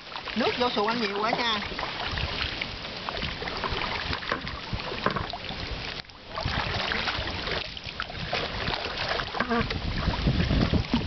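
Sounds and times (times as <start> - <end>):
paddles splashing in water: 0.0 - 11.0.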